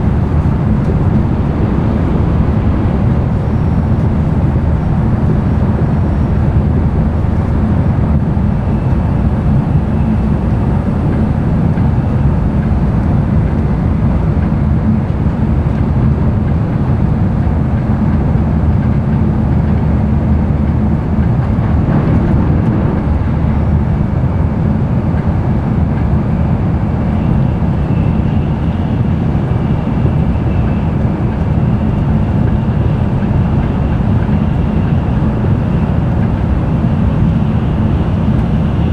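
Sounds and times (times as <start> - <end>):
train cabin rumble: 0.0 - 38.9.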